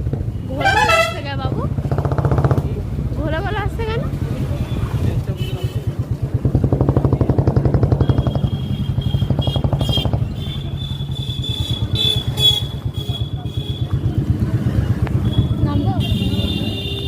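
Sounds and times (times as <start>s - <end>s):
motorcycle engine running: 0.0s - 4.7s, 5.6s - 17.0s.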